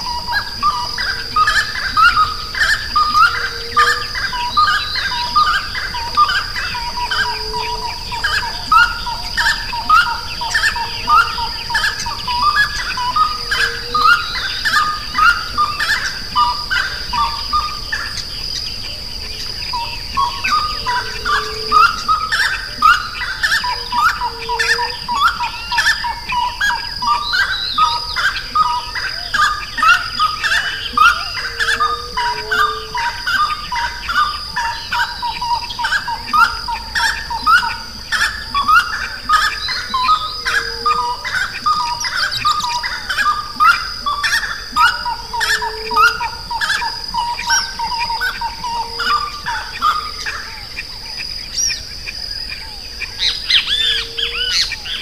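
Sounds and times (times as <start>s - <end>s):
birds calling: 0.0s - 55.0s.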